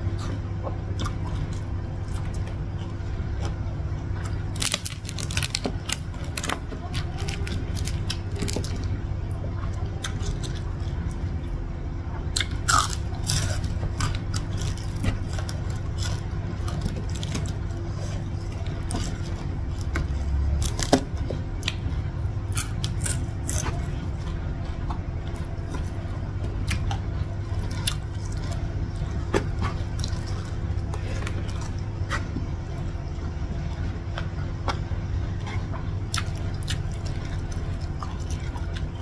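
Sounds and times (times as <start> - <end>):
chewing and crunching: 0.0 - 39.0
steady low hum: 0.0 - 39.0.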